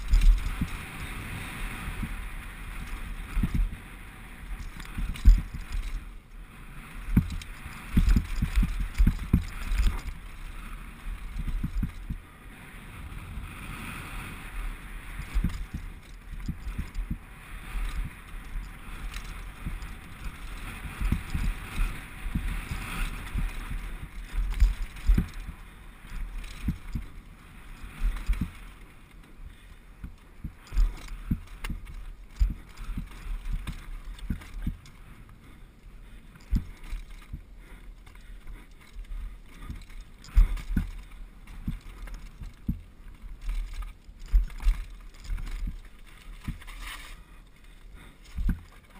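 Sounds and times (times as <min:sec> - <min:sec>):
wheels thumping on rocks: 0:00.0 - 0:06.2, 0:06.8 - 0:12.3, 0:15.2 - 0:48.9
bike tyre noise on gravel: 0:00.0 - 0:48.9.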